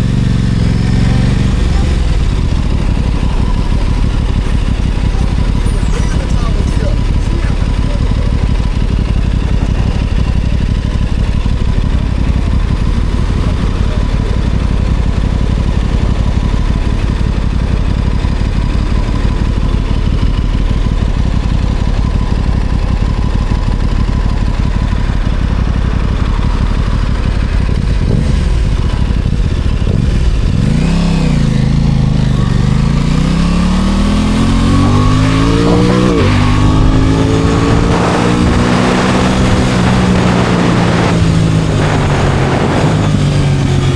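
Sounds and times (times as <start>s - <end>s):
motorcycle engine rumbling: 0.0s - 43.9s.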